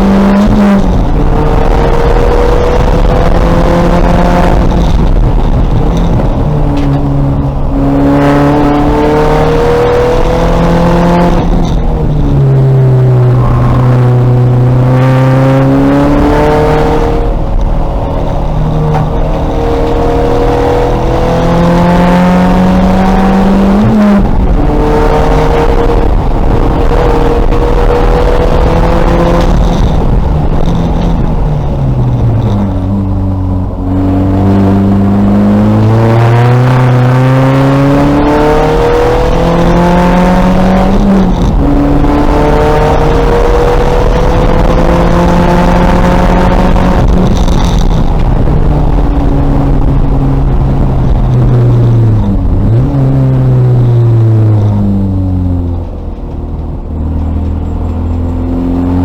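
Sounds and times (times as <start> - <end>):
race car engine on track: 0.0 - 59.0.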